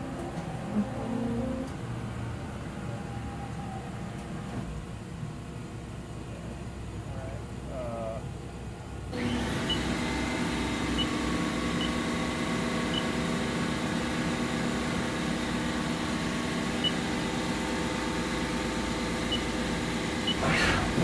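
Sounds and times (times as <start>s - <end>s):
machining center humming: 0.0s - 8.1s, 8.8s - 21.0s.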